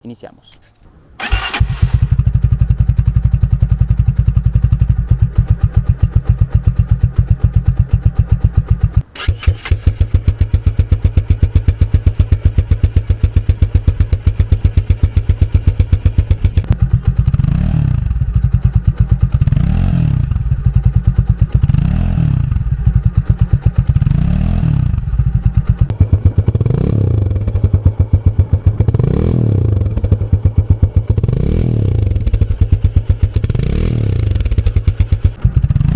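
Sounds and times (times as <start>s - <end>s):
motorcycle engine idling: 1.2s - 35.9s
motorcycle engine revving: 1.2s - 35.9s.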